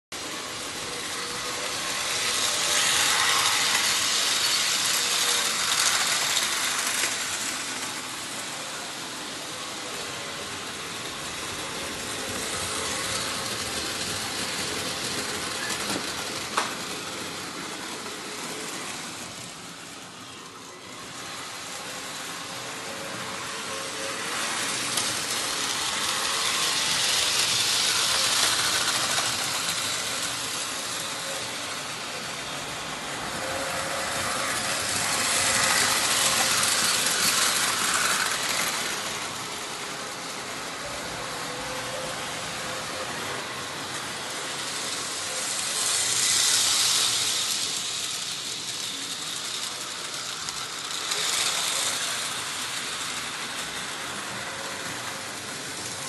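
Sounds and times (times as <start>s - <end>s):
model trains rattling on track: 0.2s - 56.0s.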